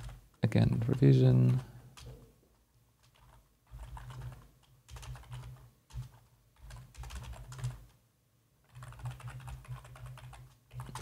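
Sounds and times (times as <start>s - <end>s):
typing on keyboard: 0.0s - 2.2s, 3.0s - 8.0s, 8.6s - 11.0s.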